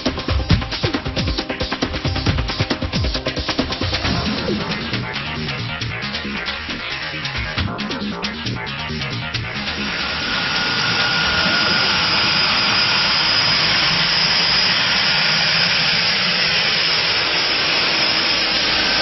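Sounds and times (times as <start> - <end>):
propeller rush with high whine: 0.0 - 19.0
turboprop engines running: 0.0 - 19.0.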